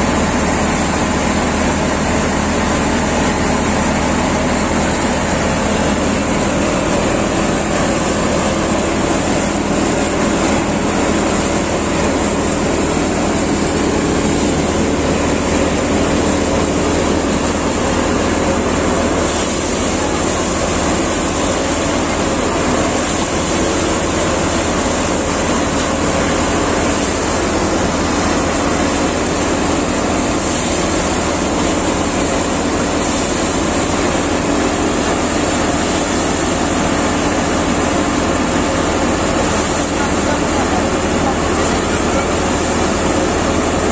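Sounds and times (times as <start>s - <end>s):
thresher and tractor engine drone: 0.0s - 43.9s.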